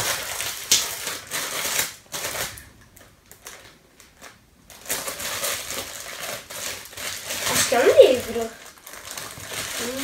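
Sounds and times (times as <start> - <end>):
wrapping paper tearing and crinkling: 0.0 - 10.0.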